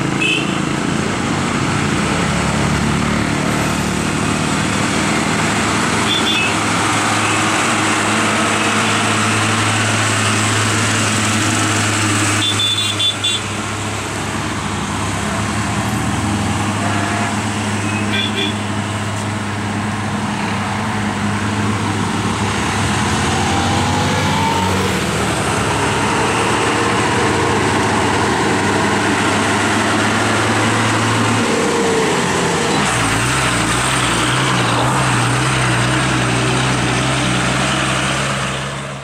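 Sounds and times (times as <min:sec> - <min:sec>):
lorry diesel engines under load: 0:00.0 - 0:39.0.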